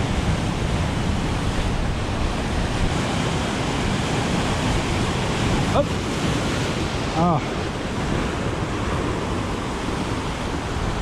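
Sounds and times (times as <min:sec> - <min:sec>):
heavy surf breaking on rocks: 0:00.0 - 0:11.0.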